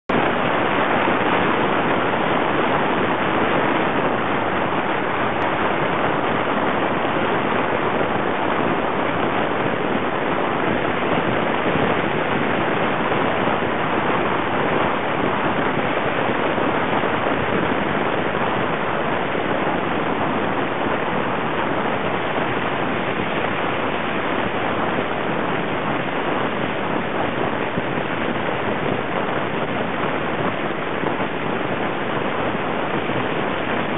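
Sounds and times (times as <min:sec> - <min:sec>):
car road and wind noise: 0:00.1 - 0:33.9.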